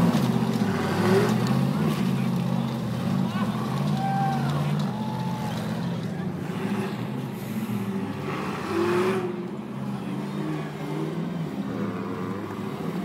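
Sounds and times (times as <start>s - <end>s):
car engine revving unevenly: 0.0s - 13.0s.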